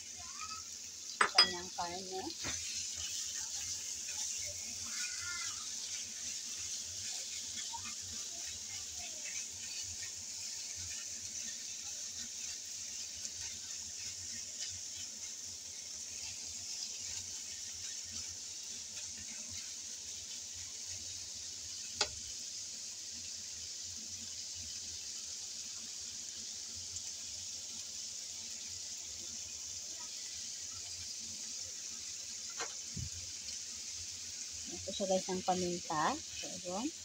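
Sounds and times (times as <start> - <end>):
food sizzling in a frying pan: 0.0 - 37.0.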